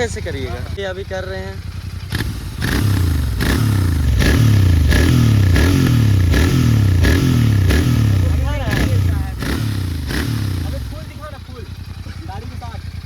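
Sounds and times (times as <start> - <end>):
motorcycle engine revving in blips: 1.7 - 13.0.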